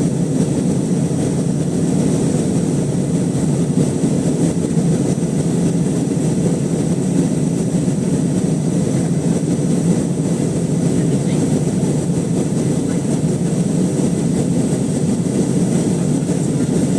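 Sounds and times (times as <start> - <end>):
airplane engine and airflow rumble: 0.0 - 16.9.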